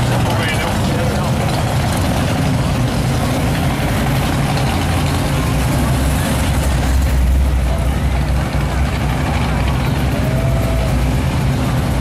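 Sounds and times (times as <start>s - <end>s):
car engines rumbling at low speed: 0.0s - 12.0s.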